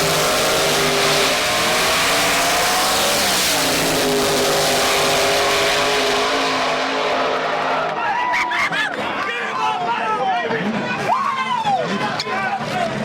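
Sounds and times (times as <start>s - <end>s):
drag racing engine at full throttle: 0.0s - 9.4s, 11.8s - 13.0s.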